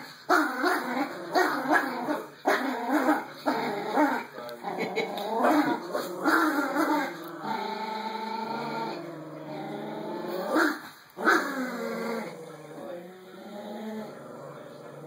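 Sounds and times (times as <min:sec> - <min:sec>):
puppies growling in play: 0:00.0 - 0:15.0
puppies yelping growls: 0:00.4 - 0:15.0.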